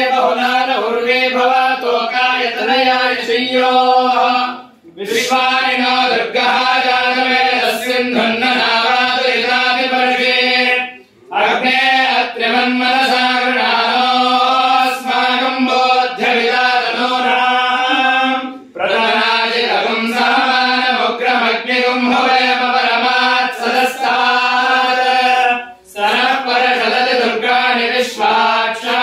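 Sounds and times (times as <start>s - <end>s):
voices chanting a hymn in unison: 0.0s - 29.0s.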